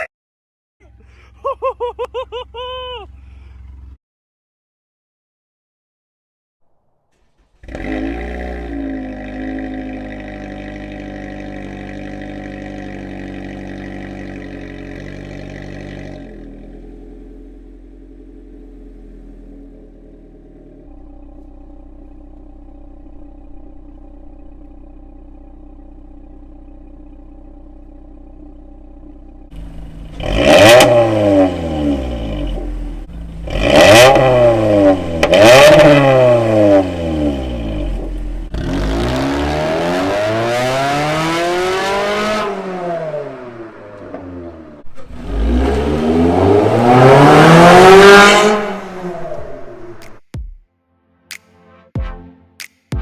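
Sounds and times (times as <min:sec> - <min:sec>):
car engine idling and revving: 0:00.8 - 0:04.0, 0:07.2 - 0:50.3.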